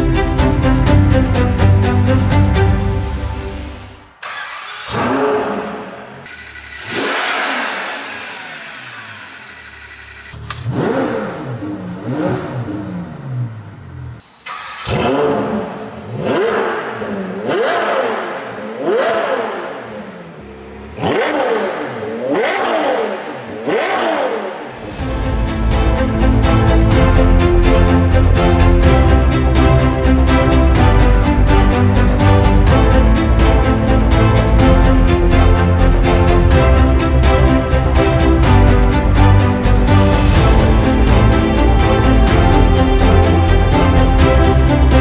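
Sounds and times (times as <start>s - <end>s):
car engine revving: 1.4s - 45.0s.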